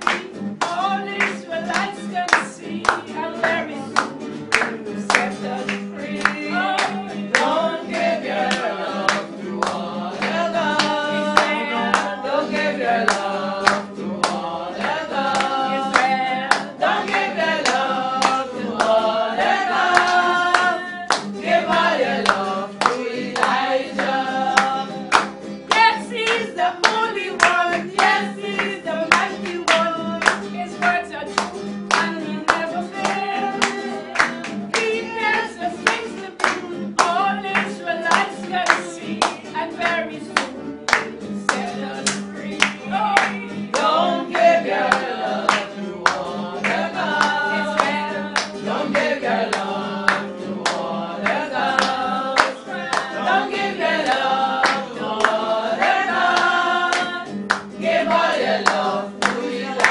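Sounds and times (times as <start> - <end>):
group singing: 0.0 - 59.9
hands clapping to a beat: 0.0 - 59.9
woman singing: 0.0 - 59.9.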